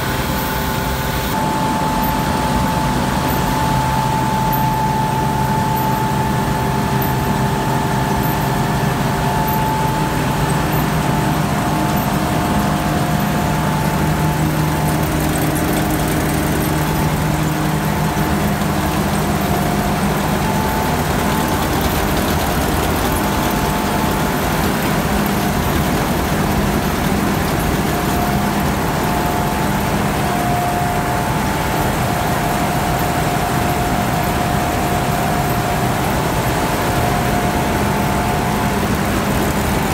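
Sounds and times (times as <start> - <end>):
combine harvester drone: 0.0 - 39.9
machinery whining tones: 0.0 - 39.9.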